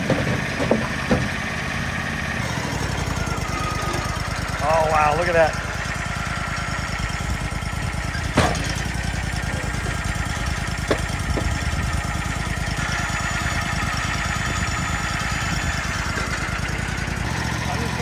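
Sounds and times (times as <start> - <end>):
bandsaw mill engine throbbing: 0.0 - 18.0.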